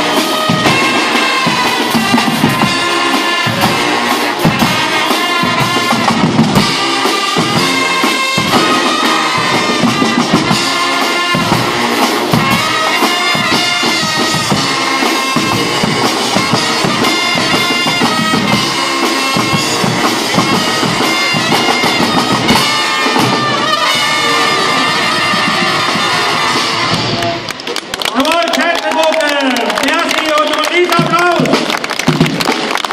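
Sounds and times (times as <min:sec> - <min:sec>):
drums and cymbals beating: 0:00.0 - 0:27.6
brass instruments playing: 0:00.0 - 0:27.7.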